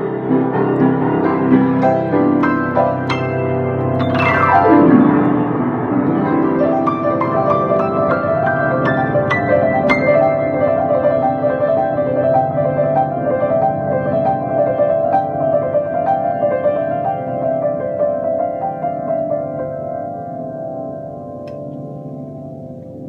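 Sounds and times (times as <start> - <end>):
solo piano improvisation: 0.0 - 23.0.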